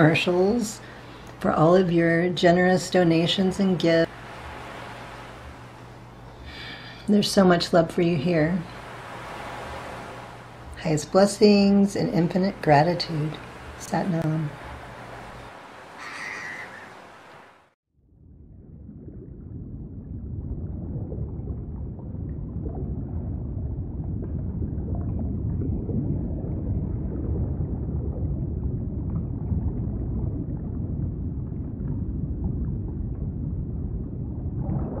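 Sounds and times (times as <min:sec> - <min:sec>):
muffled underwater water ambience: 0:00.0 - 0:35.0.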